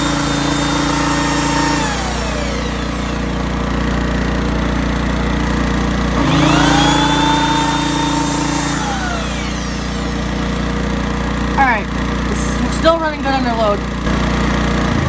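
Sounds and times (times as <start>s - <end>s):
generator engine running: 0.0s - 15.0s
power tool whining: 0.0s - 15.0s.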